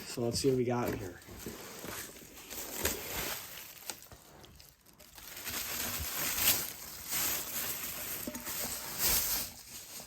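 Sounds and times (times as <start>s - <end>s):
packing material rustling: 0.0s - 10.0s.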